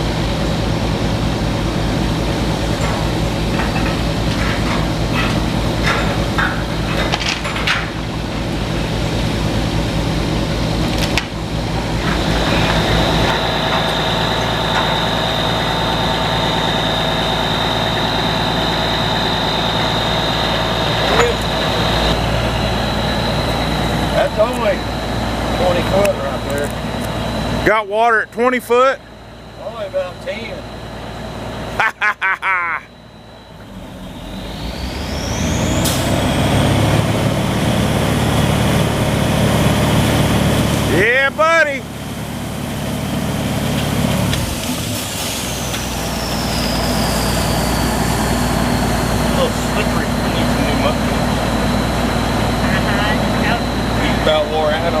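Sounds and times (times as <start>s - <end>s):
drilling rig engine drone: 0.0s - 55.0s
steady high whine: 0.0s - 55.0s.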